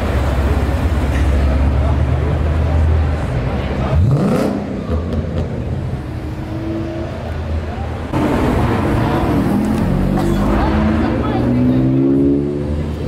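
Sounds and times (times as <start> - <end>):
sports car engines passing: 0.0 - 13.0.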